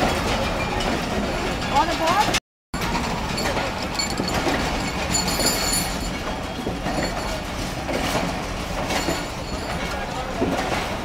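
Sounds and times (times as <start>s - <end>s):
clacks over rail joints: 0.0s - 11.0s
train wheels rumbling on rails: 0.0s - 11.0s.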